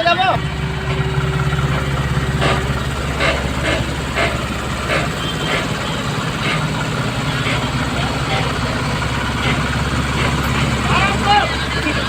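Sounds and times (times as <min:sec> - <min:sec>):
diesel truck engine humming: 0:00.0 - 0:12.0.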